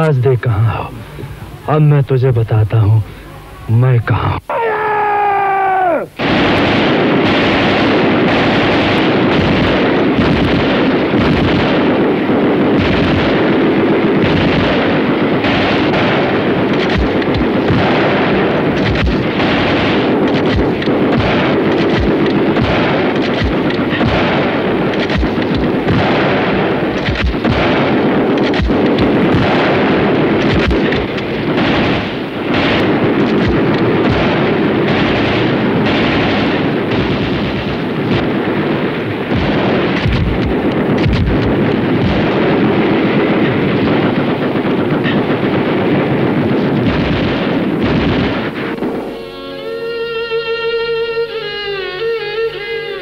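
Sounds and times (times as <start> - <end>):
dense gunfire: 5.6 - 49.9
explosions: 5.7 - 49.4
rapid machine-gun fire: 6.2 - 49.1.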